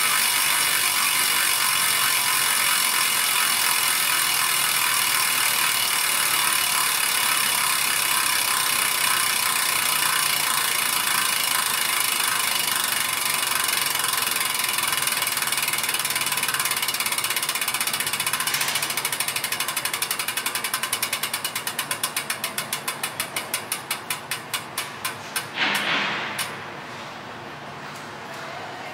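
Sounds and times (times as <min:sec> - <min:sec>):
freehub ratchet clicking: 0:00.0 - 0:26.6.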